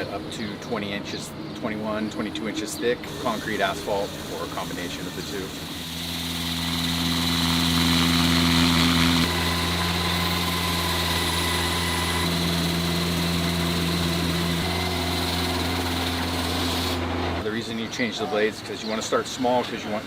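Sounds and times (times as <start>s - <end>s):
slab saw engine drone: 1.9s - 20.0s.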